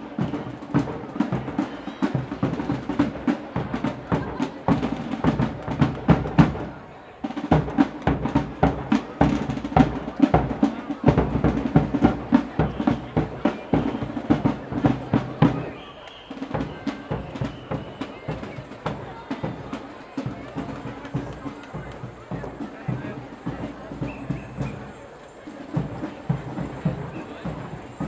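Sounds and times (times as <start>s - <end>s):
snare and bass drums: 0.0s - 25.0s, 25.6s - 28.0s.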